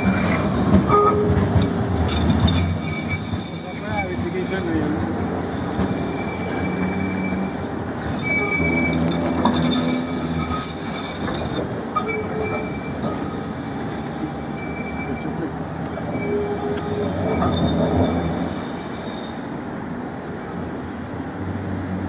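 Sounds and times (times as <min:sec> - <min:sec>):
tram wheels squealing: 0:00.0 - 0:19.8.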